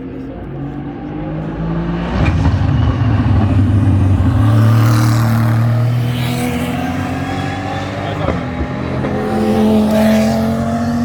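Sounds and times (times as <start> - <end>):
race car engine passing: 0.0 - 11.0.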